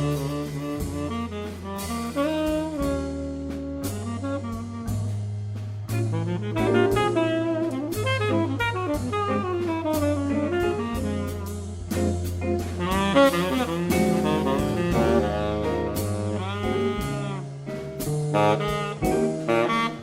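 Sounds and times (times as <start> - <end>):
saxophone melody: 0.0 - 5.3, 5.9 - 20.0
drum kit cymbals: 0.0 - 20.0
walking bass line: 0.0 - 20.0.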